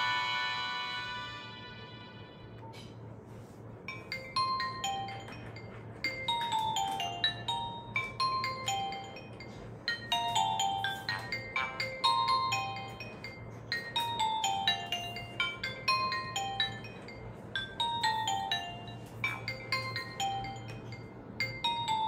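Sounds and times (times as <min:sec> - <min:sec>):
mobile phone ringtone: 0:00.0 - 0:02.9, 0:03.9 - 0:22.0.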